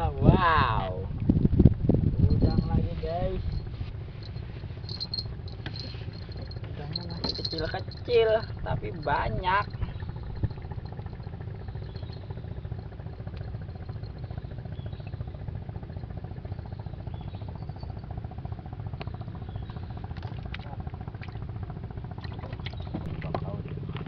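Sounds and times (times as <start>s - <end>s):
boat engine puttering: 0.0s - 24.0s.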